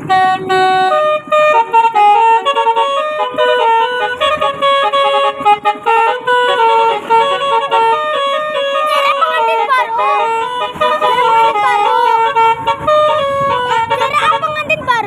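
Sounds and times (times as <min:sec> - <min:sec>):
musical bus horn playing tune: 0:00.0 - 0:15.0.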